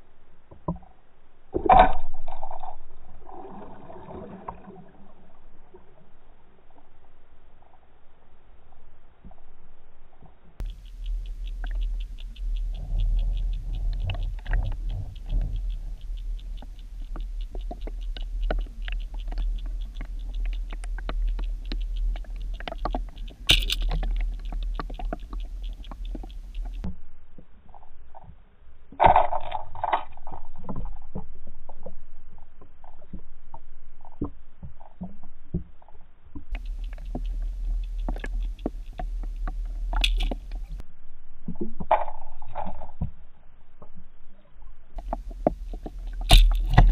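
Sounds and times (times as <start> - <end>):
muffled underwater rumble: 0.0 - 46.9
small underwater clicks: 0.5 - 7.0, 10.1 - 40.8, 41.4 - 46.9.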